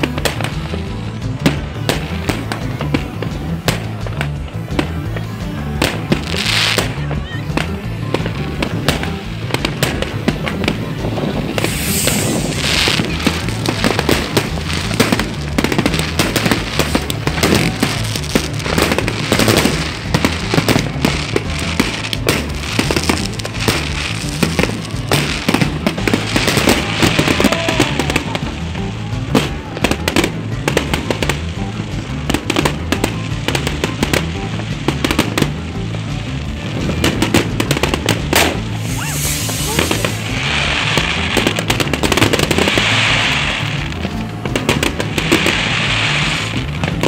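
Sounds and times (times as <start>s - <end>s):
fireworks bursting and crackling: 0.0s - 47.0s
music: 0.0s - 47.0s.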